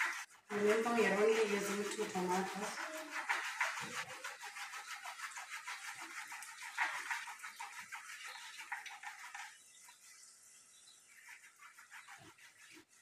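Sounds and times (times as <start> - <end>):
tomato rasping on plastic grater: 0.0 - 9.6, 11.1 - 13.0.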